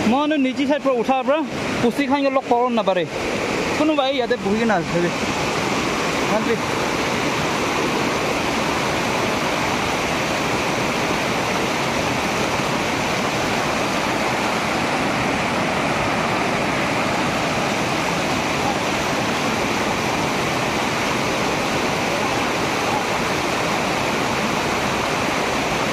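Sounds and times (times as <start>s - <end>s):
river rushing over stones: 0.0s - 25.9s.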